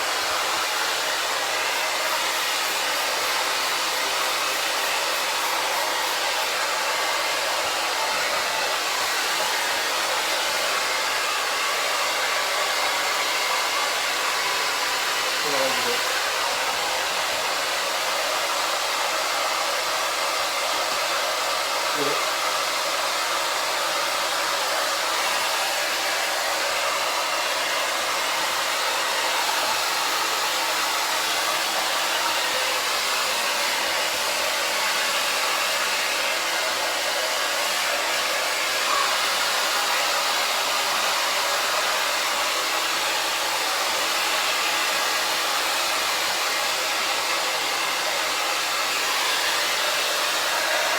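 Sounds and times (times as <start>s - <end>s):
hair dryer blowing: 0.0s - 50.9s.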